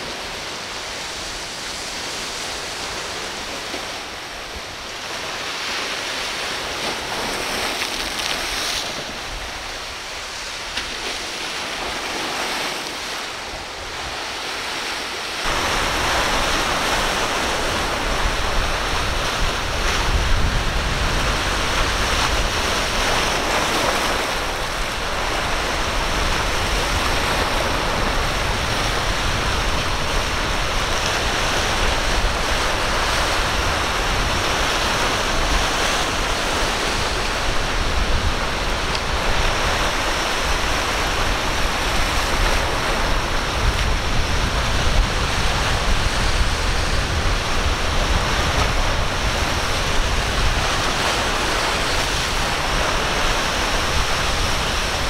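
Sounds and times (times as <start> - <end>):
breaking surf: 0.0 - 55.0
wind buffeting microphone: 0.0 - 55.0.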